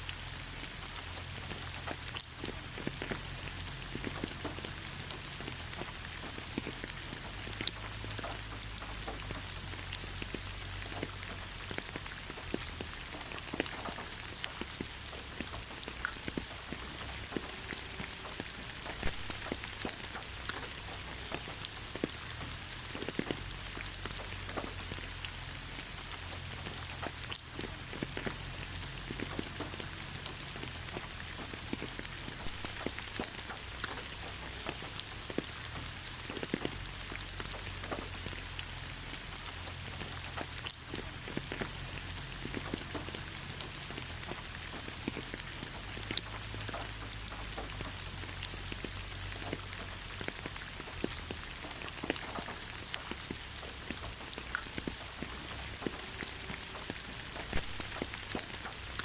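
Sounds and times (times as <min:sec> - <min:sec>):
raindrops striking surface: 0:00.0 - 0:59.0
steady rainfall hiss: 0:00.0 - 0:59.0.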